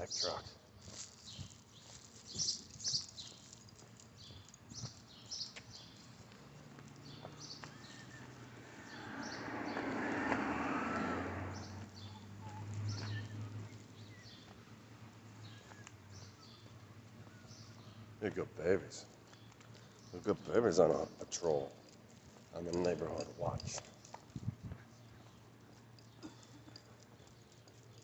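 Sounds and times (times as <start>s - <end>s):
footsteps and paws on pavement: 0.0s - 28.0s.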